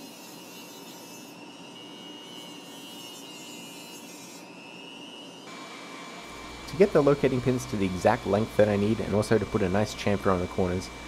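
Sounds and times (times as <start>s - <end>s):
rotary tool cutting steel: 0.0s - 11.0s.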